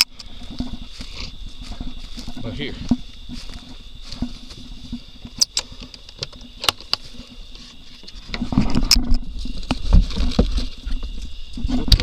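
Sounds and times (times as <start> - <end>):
rustling and rubbing: 0.3 - 12.0.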